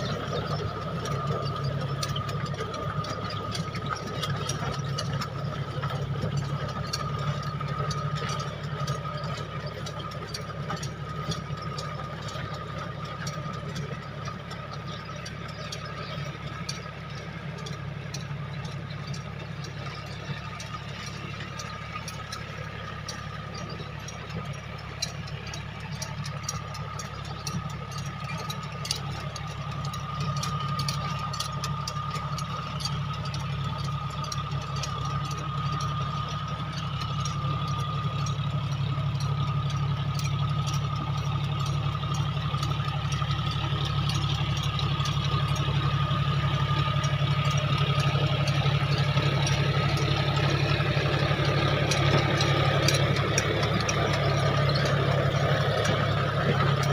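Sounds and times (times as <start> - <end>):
clicks and rattles: 0.0 - 56.9
tractor diesel engine under load: 0.0 - 56.9.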